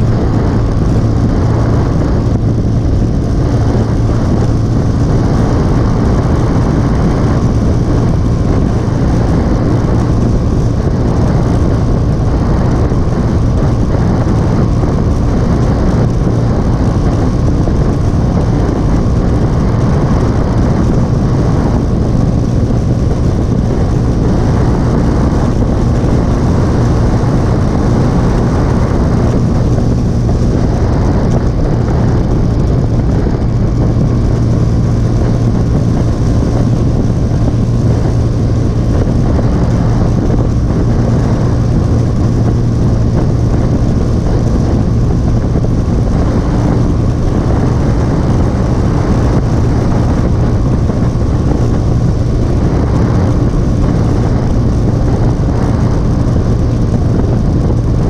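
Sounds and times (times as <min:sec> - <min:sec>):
motorcycle engine running: 0:00.0 - 0:58.0
wind rush over microphone: 0:00.0 - 0:58.0.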